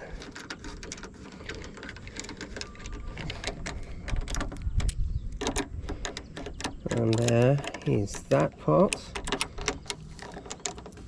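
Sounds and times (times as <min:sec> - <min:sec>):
driver tightening bolts: 0:00.1 - 0:11.0.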